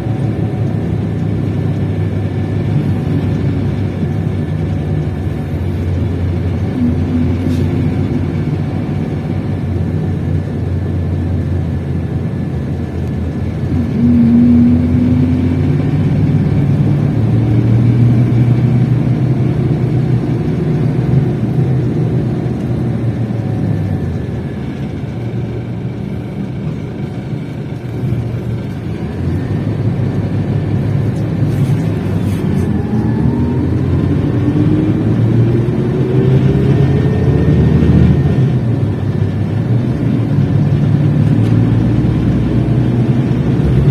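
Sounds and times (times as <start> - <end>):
diesel engine revving: 0.0 - 43.9.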